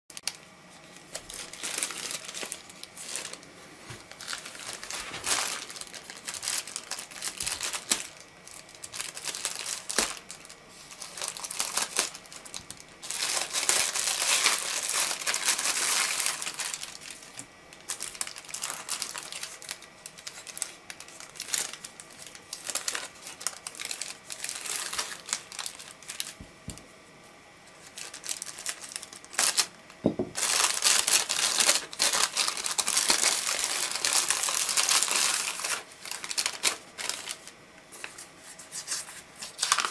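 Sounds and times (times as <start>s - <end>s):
plastic packaging crinkling: 0.1s - 26.8s, 27.7s - 39.9s.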